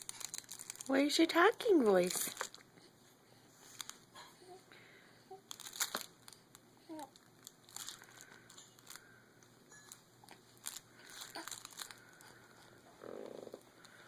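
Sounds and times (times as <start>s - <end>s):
faint crinkling: 0.0s - 14.0s.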